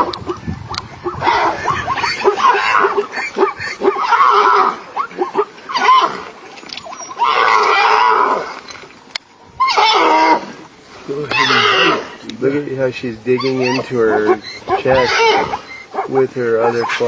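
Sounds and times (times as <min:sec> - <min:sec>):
zebra crying out: 0:00.0 - 0:08.6, 0:09.5 - 0:12.3, 0:13.0 - 0:17.0.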